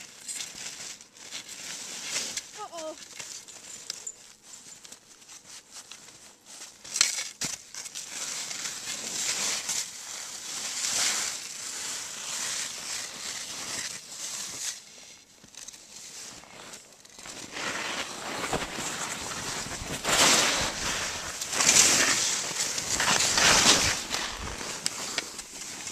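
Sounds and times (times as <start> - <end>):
skis crunching through powder snow: 0.0 - 25.9.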